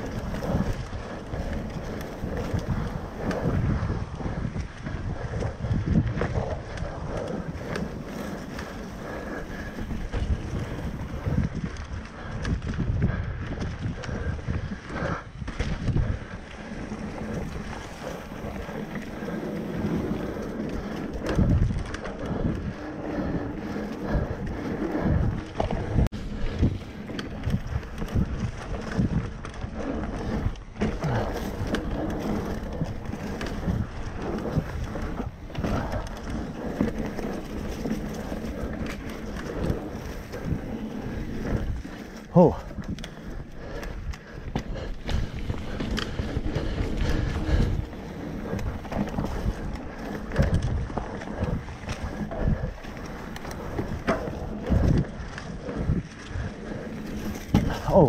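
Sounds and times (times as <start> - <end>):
bike knocking and rattling: 0.0 - 58.0
bike tyre rumble on dirt: 0.0 - 58.0
wind buffeting microphone: 0.0 - 58.0.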